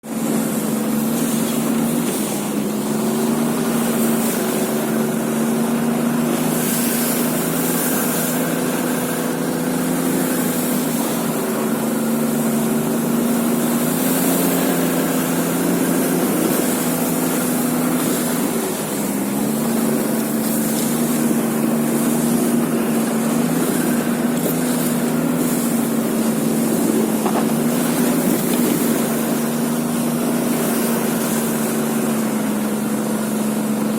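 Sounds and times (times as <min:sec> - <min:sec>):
constant hissing wash: 0:00.0 - 0:33.9
small vehicle engine running: 0:00.0 - 0:33.9.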